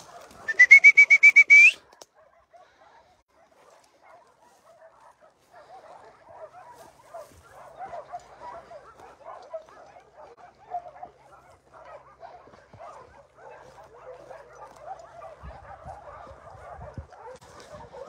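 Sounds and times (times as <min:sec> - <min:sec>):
dogs barking and yelping: 0:00.0 - 0:00.8, 0:01.7 - 0:18.0.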